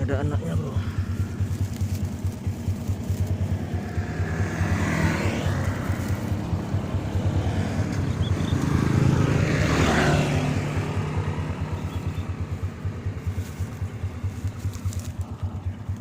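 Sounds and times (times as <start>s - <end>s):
motorcycle engine idling: 0.0s - 16.0s
vehicle passing: 0.0s - 16.0s.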